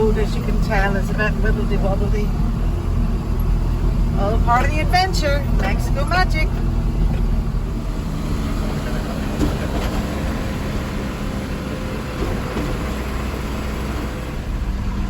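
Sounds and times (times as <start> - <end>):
road rumble: 0.0 - 15.0
truck diesel engine driving: 0.0 - 15.0.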